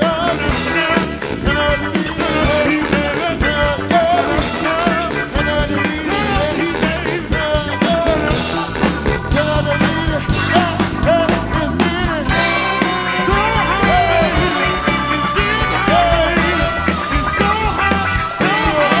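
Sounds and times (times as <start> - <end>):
live band playing upbeat song: 0.0 - 19.0
steady drum beat: 0.0 - 19.0.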